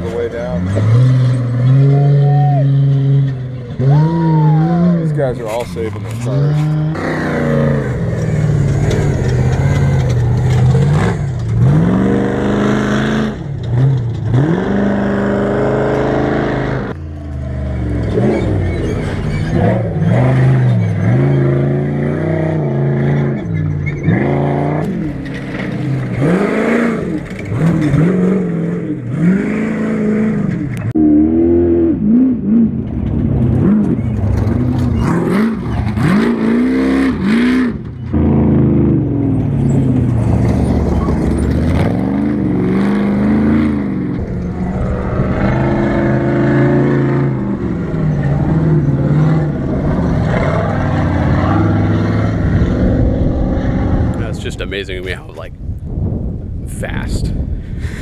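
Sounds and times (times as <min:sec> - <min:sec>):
off-road vehicle engine revving: 0:00.0 - 0:55.4.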